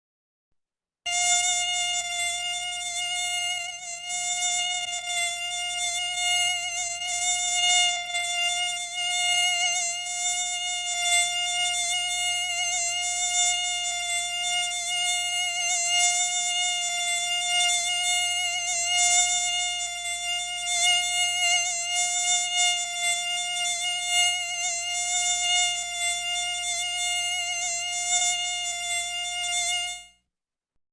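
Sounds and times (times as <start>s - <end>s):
mosquito buzzing: 1.1s - 30.2s.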